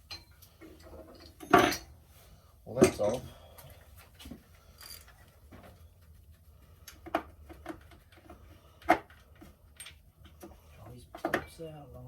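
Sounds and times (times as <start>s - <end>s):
hand tools clinking and knocking: 0.0s - 2.0s, 2.7s - 5.8s, 6.9s - 11.8s.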